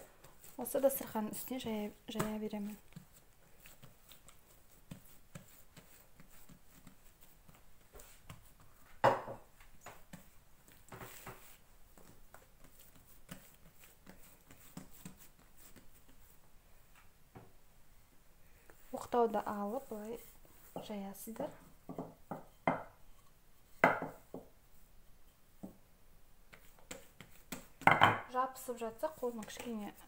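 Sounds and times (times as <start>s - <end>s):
hands patting dough: 0.1s - 16.5s, 18.9s - 22.8s, 25.6s - 30.0s.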